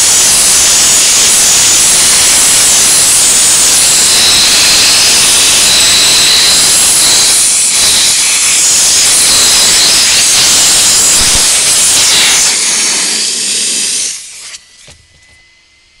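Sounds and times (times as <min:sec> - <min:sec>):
steam cleaner hissing: 0:00.0 - 0:15.4.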